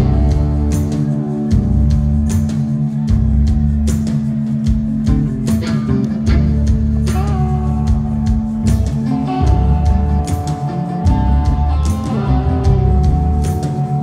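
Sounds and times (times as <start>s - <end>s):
electric guitar bending notes: 0.0s - 2.3s, 5.0s - 14.0s
drum and cymbal hits: 0.0s - 14.0s
heavy bass line: 0.0s - 14.0s.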